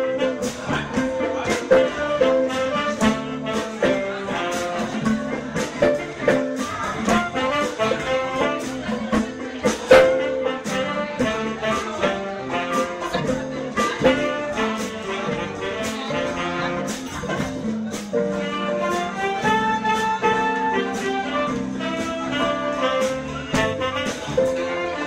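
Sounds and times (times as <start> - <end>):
drums steady beat: 0.0 - 25.0
horn section sustained notes: 0.0 - 25.0.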